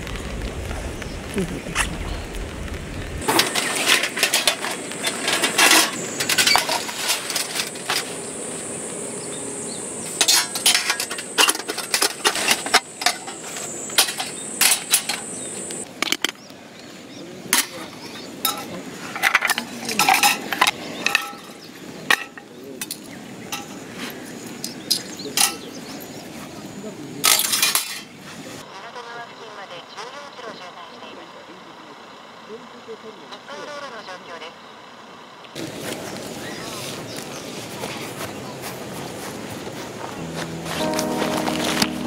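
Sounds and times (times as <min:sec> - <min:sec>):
steady high-pitched hiss: 0:00.0 - 0:34.4, 0:35.6 - 0:42.0.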